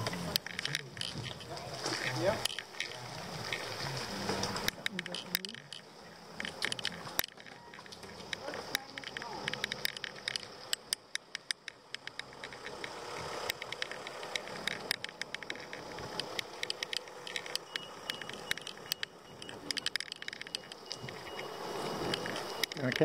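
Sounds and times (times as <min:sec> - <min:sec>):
bicycle tyre road noise: 0:00.0 - 0:23.0
bike clicks and rattles: 0:00.0 - 0:23.0.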